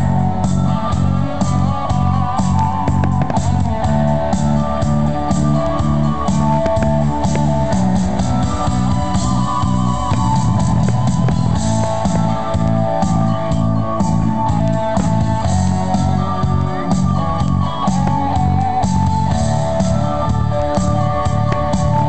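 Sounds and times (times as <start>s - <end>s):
song with steady beat: 0.0s - 22.0s.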